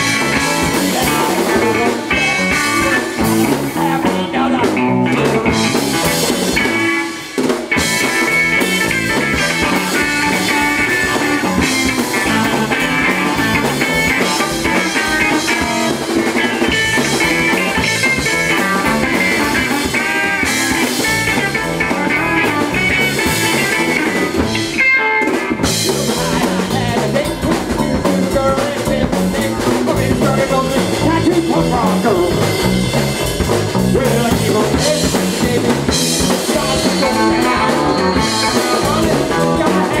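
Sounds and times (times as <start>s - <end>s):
drum kit: 0.0s - 40.0s
electric guitar: 0.0s - 40.0s.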